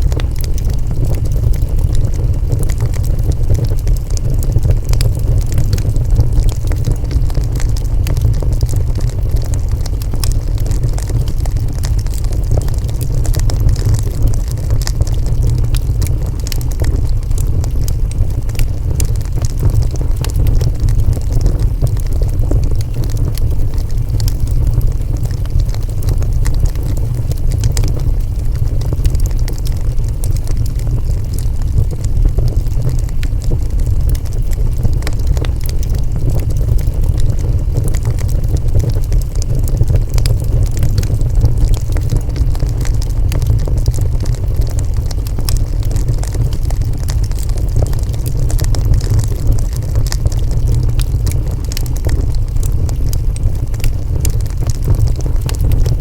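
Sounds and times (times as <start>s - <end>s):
low rumble of fire: 0.0s - 56.0s
wood fire crackling: 0.0s - 56.0s.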